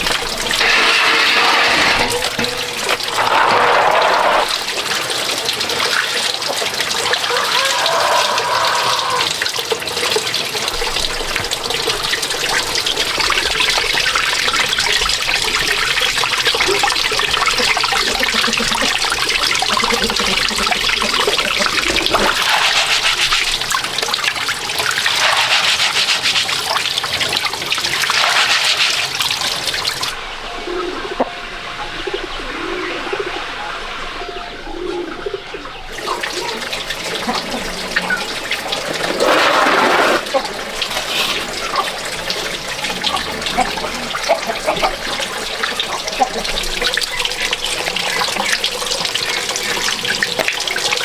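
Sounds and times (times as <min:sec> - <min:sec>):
water running and splashing: 0:00.0 - 0:34.1, 0:34.7 - 0:51.0.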